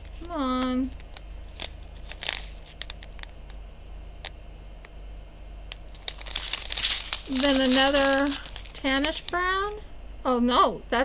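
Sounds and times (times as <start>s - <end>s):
plastic bags crinkling: 0.0s - 4.9s, 5.7s - 10.0s
light clicks and ticks: 0.0s - 5.0s, 5.7s - 9.9s.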